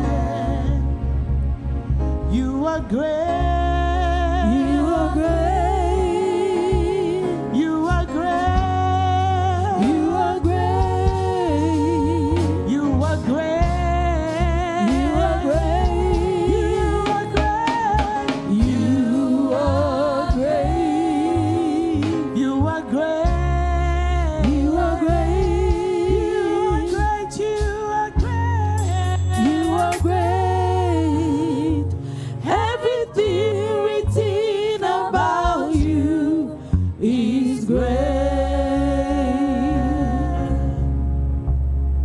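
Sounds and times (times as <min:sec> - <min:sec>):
bass line: 0:00.0 - 0:42.0
singing with vibrato: 0:02.3 - 0:23.4, 0:24.0 - 0:40.8.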